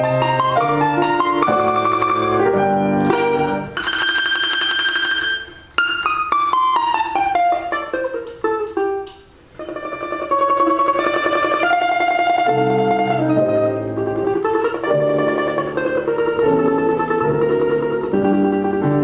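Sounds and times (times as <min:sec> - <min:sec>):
plucked string instrument melody: 0:00.0 - 0:19.0.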